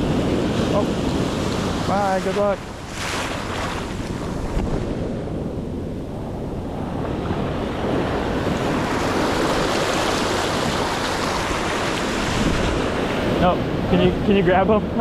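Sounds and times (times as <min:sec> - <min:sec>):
surf washing over sand: 0:00.0 - 0:05.5, 0:06.7 - 0:15.0
wind buffeting microphone: 0:00.0 - 0:15.0.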